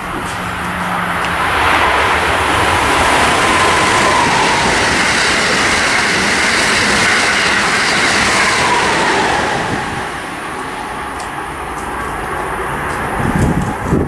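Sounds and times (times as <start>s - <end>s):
thin whine: 0.0s - 12.2s
high-speed train passing: 0.0s - 14.0s.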